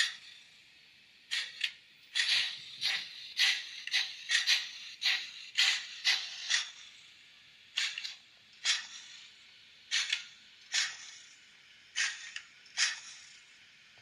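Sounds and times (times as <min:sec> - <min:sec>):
model steam locomotive chuffs: 0:00.0 - 0:14.0.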